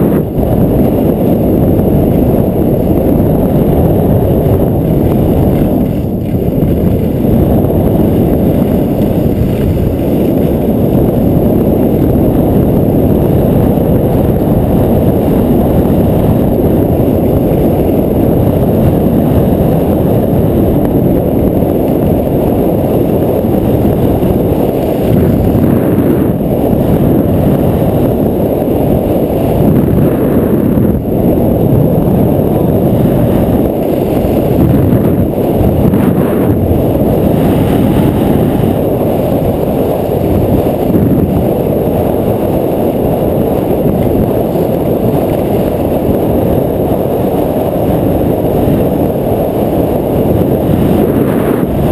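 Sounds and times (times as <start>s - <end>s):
skis running over snow: 0.0s - 51.9s
wind rushing on microphone: 0.0s - 51.9s.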